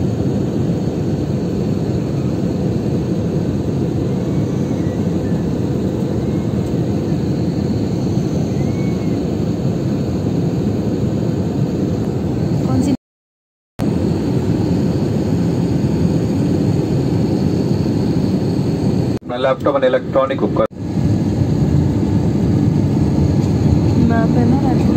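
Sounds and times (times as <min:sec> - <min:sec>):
jet airliner cabin drone: 0:00.0 - 0:13.0, 0:13.8 - 0:24.9.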